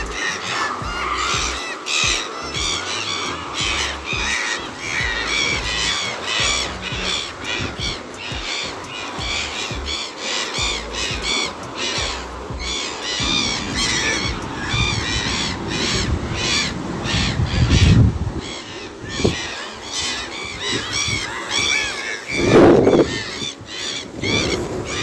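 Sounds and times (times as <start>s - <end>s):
low rumbling noise: 0.0s - 10.0s, 10.6s - 25.0s
birds chirping: 0.0s - 25.0s.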